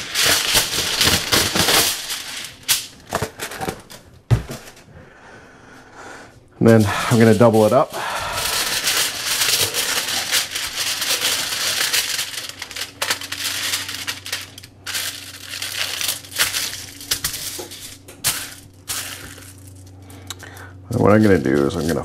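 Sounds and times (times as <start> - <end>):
aluminum foil crinkling: 0.0 - 4.6, 6.9 - 22.0.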